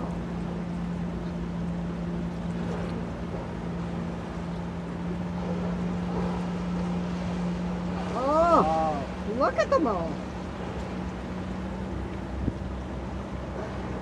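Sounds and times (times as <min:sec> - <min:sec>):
boat engine humming: 0:00.0 - 0:14.0
water wash: 0:00.0 - 0:14.0.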